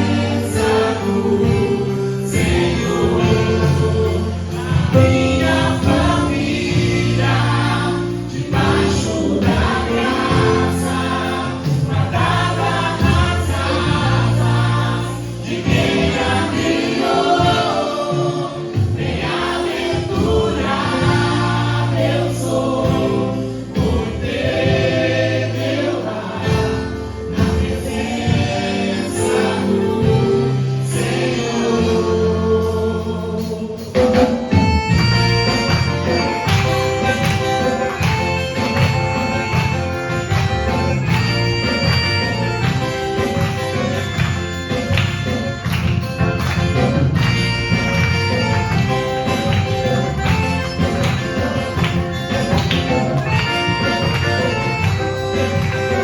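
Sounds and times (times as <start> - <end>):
choir singing worship song: 0.0 - 56.0
instrumental backing: 0.0 - 56.0
steady bass line: 0.0 - 56.0.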